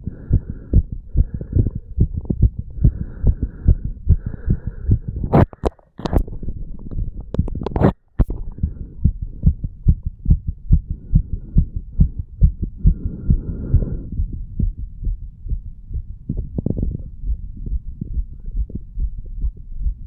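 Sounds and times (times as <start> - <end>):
heartbeat thumps: 0.0 - 20.0.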